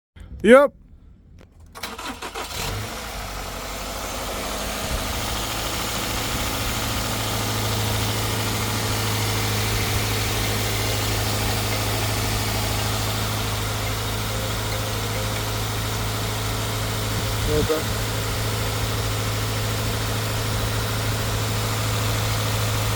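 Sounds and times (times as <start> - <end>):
car engine idling: 0.2 - 22.9.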